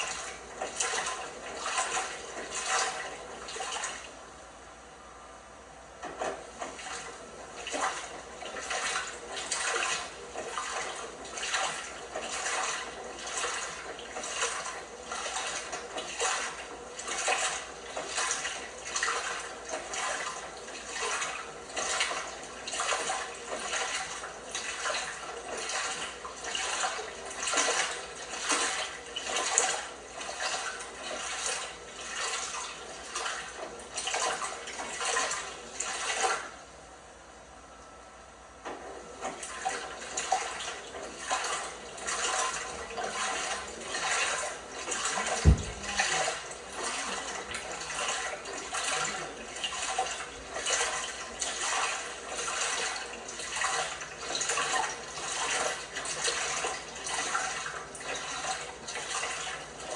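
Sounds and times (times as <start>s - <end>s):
washing machine sloshing: 0.0s - 4.6s, 5.8s - 36.9s, 38.6s - 59.9s.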